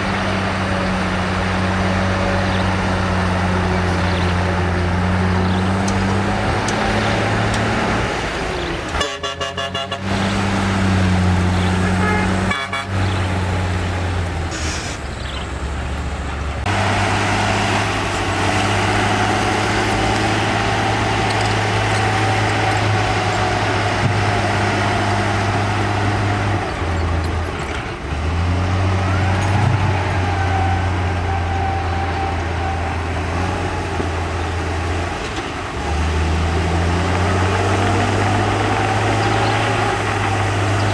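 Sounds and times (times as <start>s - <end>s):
heavy diesel engine droning: 0.0s - 40.9s.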